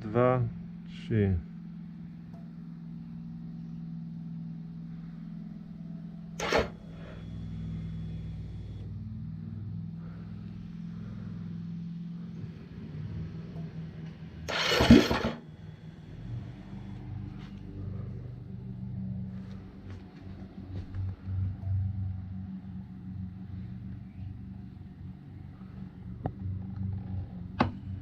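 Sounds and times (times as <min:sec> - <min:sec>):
fuel pump humming: 0:00.0 - 0:28.0.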